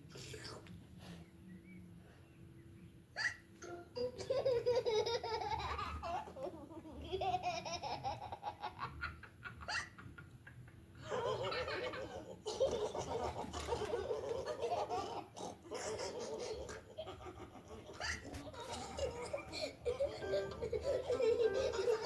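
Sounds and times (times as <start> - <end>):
cartoon characters laughing: 3.2 - 22.0.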